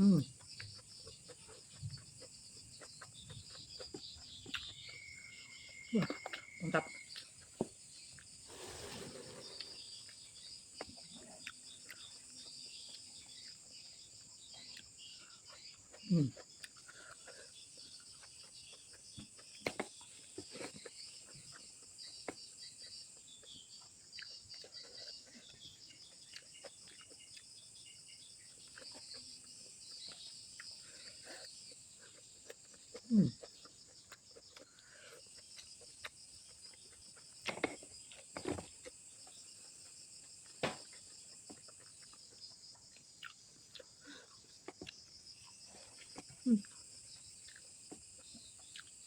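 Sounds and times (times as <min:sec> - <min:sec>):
crickets chirring: 0:00.0 - 0:49.0
wet chewing and lip smacks: 0:00.2 - 0:08.4, 0:09.6 - 0:49.0.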